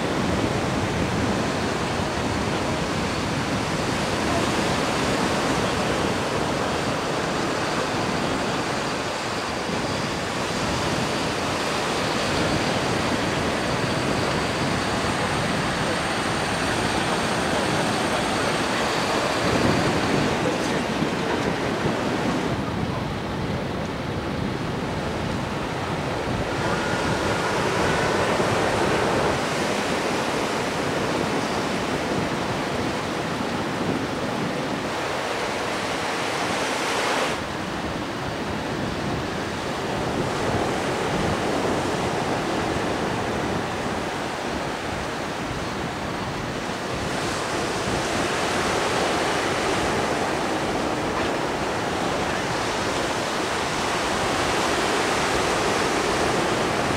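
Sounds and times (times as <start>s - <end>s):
surf breaking on beach: 0.0s - 56.9s
wind buffeting microphone: 0.0s - 56.9s.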